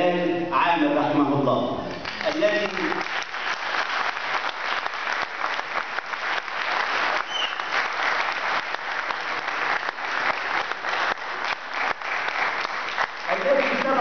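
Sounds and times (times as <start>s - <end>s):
audience applauding: 1.9s - 14.0s.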